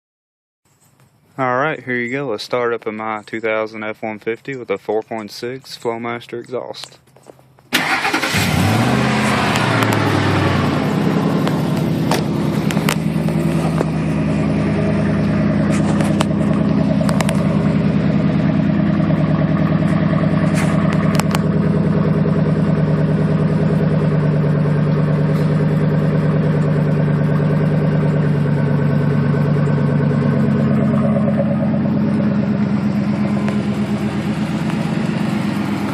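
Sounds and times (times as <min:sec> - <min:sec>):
car engine idling: 0:01.4 - 0:35.9.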